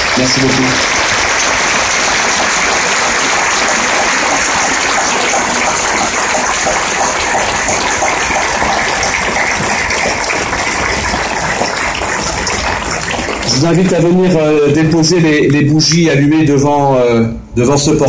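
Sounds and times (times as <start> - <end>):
crowd applauding: 0.0 - 15.3.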